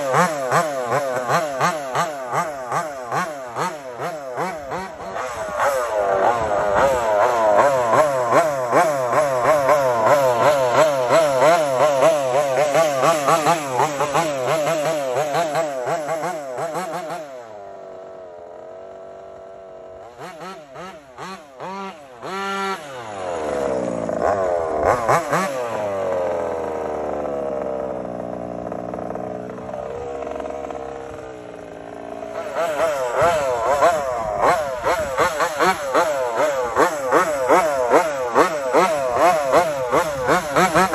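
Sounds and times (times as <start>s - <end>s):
small two-stroke engine revving: 0.0s - 40.9s.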